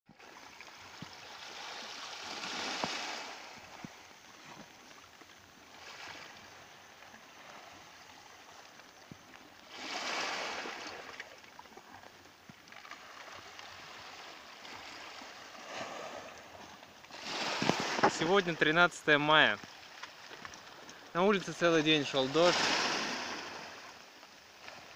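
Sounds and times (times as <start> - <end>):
small waves washing ashore: 0.1 - 24.9.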